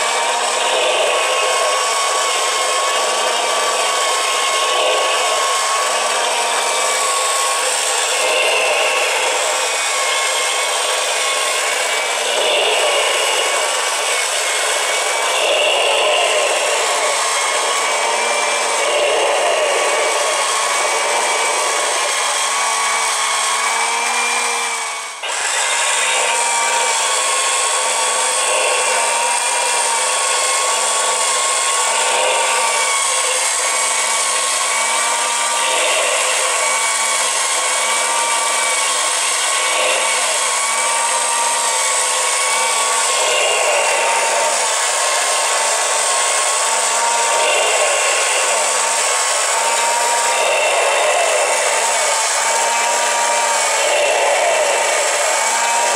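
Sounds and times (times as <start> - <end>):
small electric motor whirring: 0.0 - 55.9.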